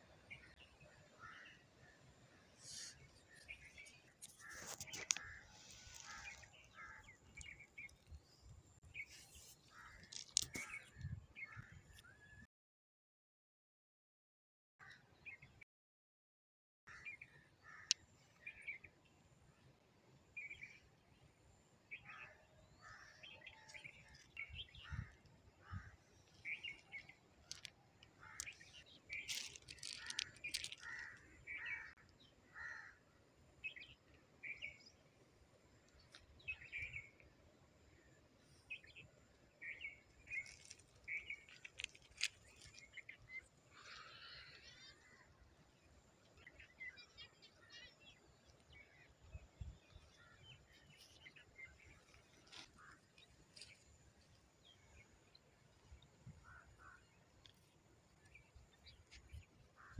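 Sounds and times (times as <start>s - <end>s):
small birds chirping: 0.2s - 12.2s, 21.9s - 33.0s, 33.6s - 35.1s, 35.7s - 59.9s.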